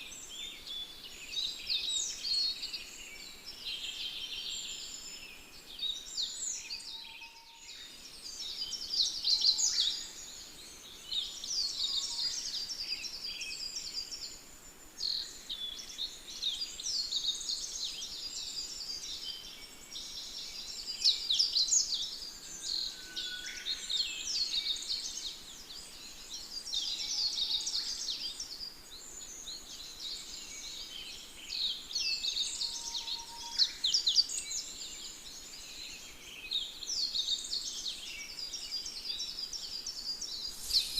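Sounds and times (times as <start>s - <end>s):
faint background hiss: 0.0s - 40.9s
small birds chirping and trilling: 0.0s - 40.9s.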